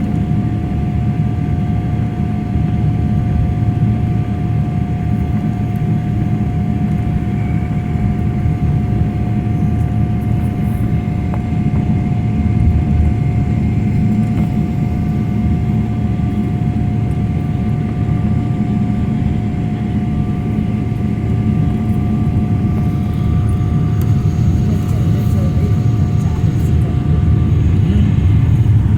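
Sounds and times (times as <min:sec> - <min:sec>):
jet engine rumble in cabin: 0:00.0 - 0:28.9
jet engine whine: 0:00.0 - 0:28.9.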